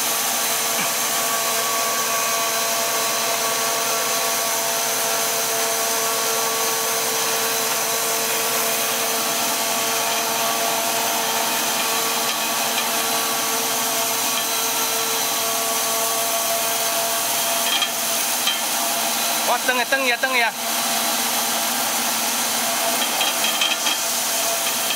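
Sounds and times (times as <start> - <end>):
machine hiss and hum: 0.0 - 24.9.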